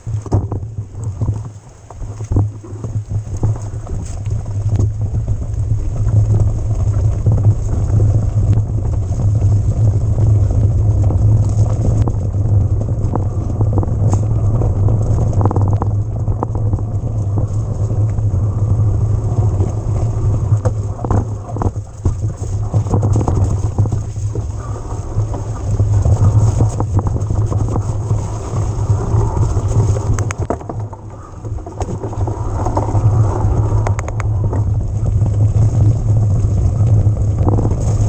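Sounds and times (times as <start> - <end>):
bike knocking and rattling: 0.0 - 38.0
bike riding rumble: 0.0 - 38.0.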